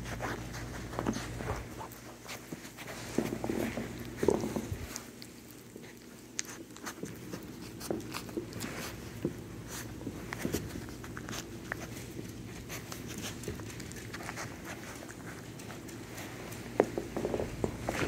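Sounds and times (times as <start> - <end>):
puppies licking and nibbling a hand: 0.0 - 18.0.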